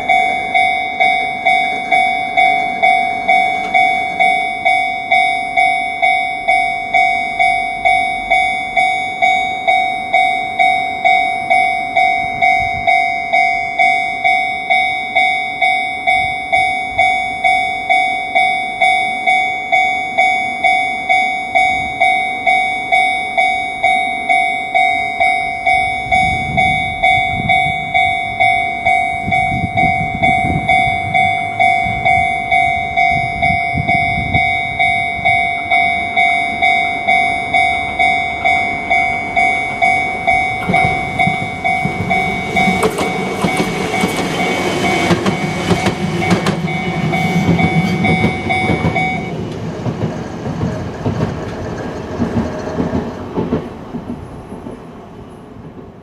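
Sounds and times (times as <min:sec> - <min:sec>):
level crossing alarm bell ringing: 0:00.0 - 0:50.1
train passing: 0:00.0 - 0:56.0
wheels clicking on rails: 0:00.0 - 0:56.0.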